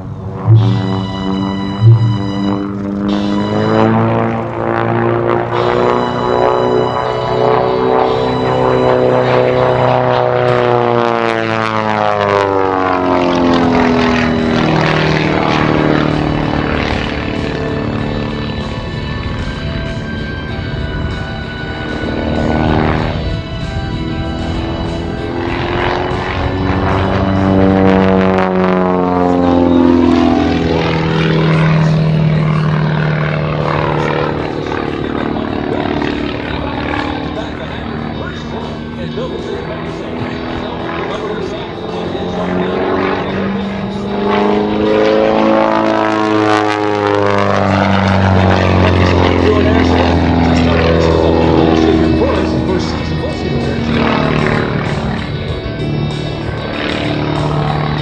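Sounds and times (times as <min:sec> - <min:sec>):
biplane engine and propeller flying past: 0:00.0 - 0:58.0.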